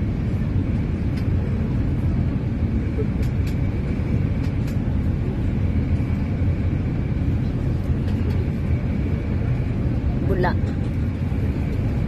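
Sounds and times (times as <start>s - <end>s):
ferry engine drone: 0.0s - 12.0s
rushing wind: 0.0s - 12.0s.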